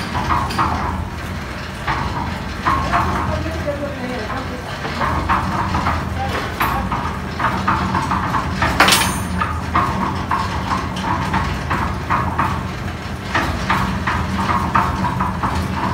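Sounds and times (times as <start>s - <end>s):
concrete mixer humming: 0.0s - 15.9s
rhythmic metallic clanking: 0.0s - 15.9s.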